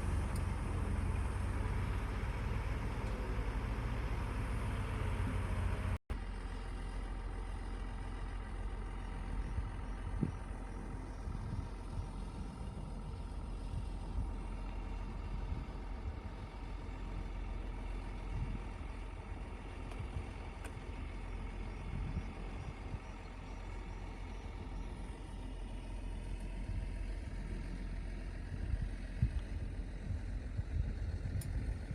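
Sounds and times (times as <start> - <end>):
diesel engine rumbling: 0.0 - 31.9.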